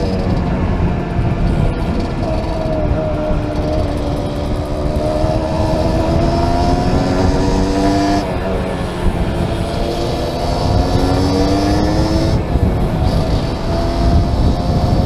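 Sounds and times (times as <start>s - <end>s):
small motorcycle engine: 0.0s - 15.0s
wind rumble on microphone: 0.0s - 15.0s.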